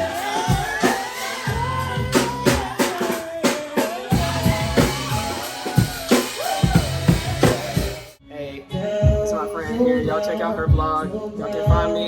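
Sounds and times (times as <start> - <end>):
hip-hop music with sung melody: 0.0 - 12.0.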